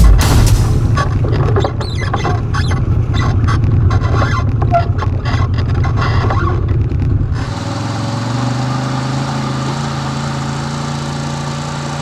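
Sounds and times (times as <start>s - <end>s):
rattling engine rumble: 0.0s - 12.0s.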